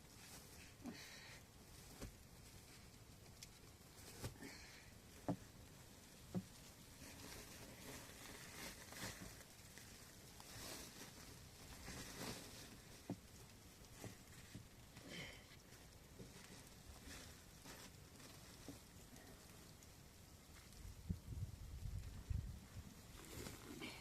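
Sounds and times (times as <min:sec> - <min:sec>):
soft rustling: 0:00.0 - 0:24.0.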